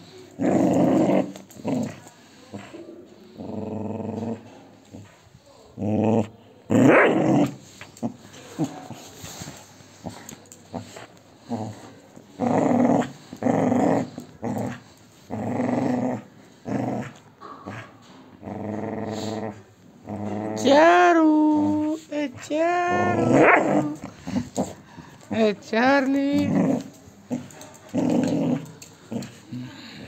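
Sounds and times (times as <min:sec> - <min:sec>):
dog growling: 0:00.0 - 0:05.2, 0:05.8 - 0:25.4, 0:26.1 - 0:30.0.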